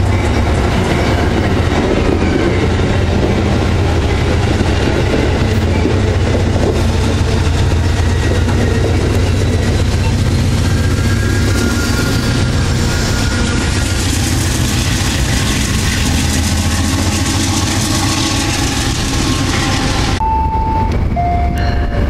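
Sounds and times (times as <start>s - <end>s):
locomotive engine rumbling: 0.0s - 22.0s
moving train noise: 0.0s - 22.0s.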